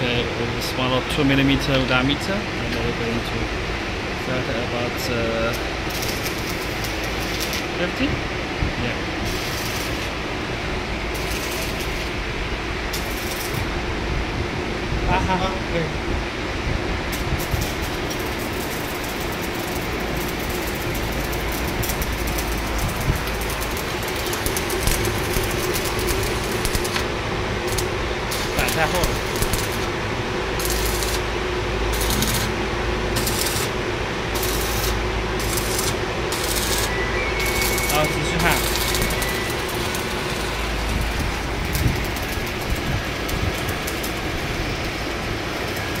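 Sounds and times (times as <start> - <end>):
welding arc crackling: 0.0 - 15.9, 16.8 - 46.0
steady mechanical hum: 0.0 - 46.0.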